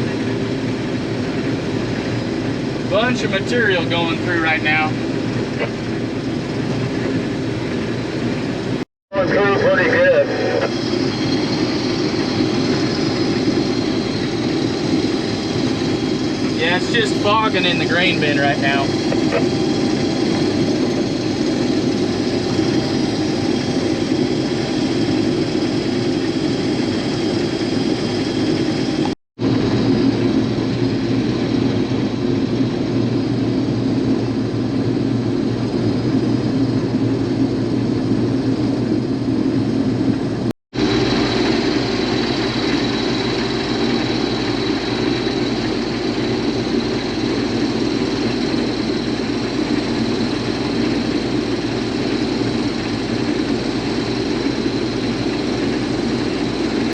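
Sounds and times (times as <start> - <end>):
combine engine hum: 0.0 - 56.9.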